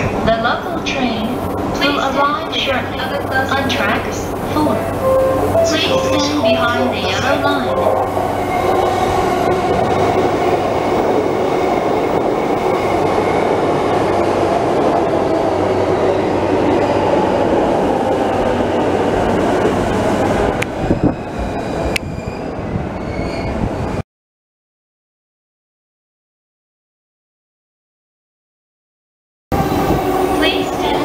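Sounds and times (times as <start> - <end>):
electric train running past: 0.0 - 24.0, 29.6 - 31.0.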